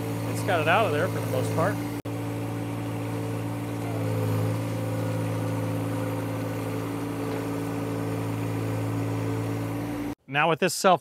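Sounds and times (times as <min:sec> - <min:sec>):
tractor diesel engine running: 0:00.0 - 0:10.2.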